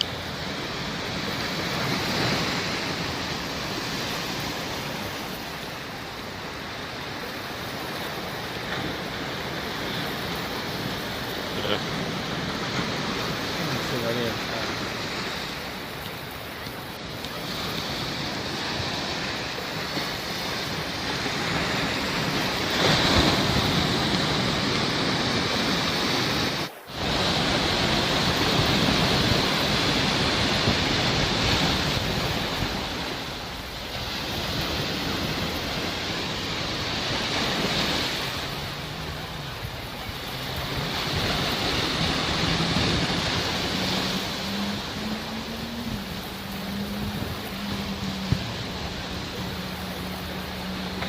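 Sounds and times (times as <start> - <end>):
sea waves washing ashore: 0.0 - 51.0.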